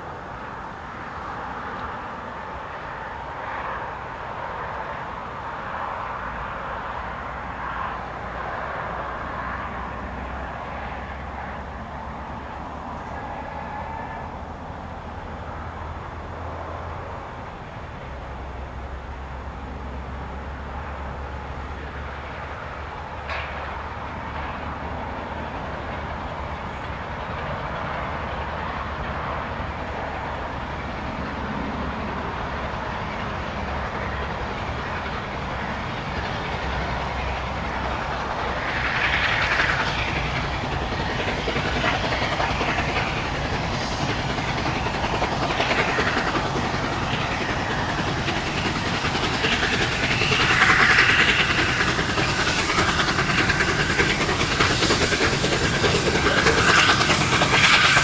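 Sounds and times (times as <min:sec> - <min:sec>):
steam locomotive exhaust: 0:00.0 - 0:58.0.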